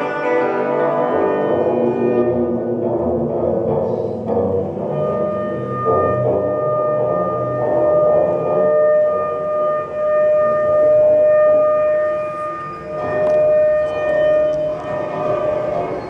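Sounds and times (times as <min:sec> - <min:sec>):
ensemble holding a long note: 0:00.0 - 0:16.0.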